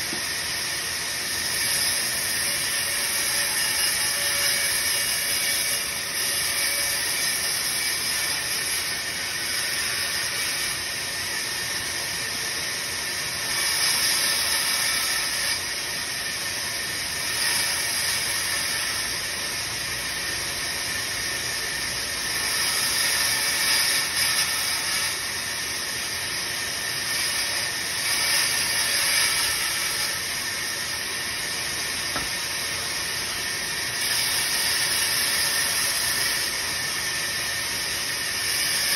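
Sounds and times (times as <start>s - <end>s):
band saw cutting wood: 0.0s - 11.0s, 13.0s - 38.9s.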